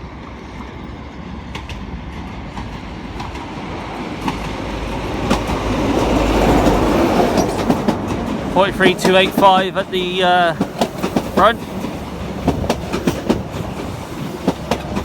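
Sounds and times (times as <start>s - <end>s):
diesel train engine: 0.0s - 15.0s
train wheels clicking over rail joints: 1.1s - 15.0s.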